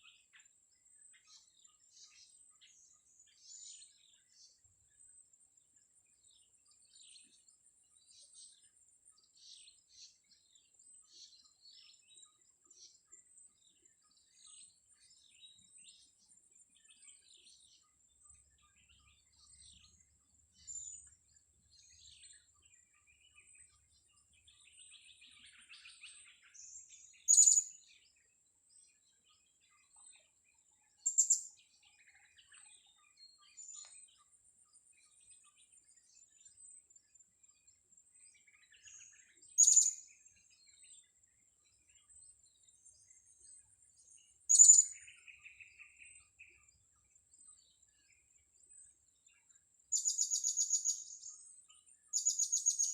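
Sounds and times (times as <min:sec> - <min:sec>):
soft twittering: 0:00.0 - 0:52.9.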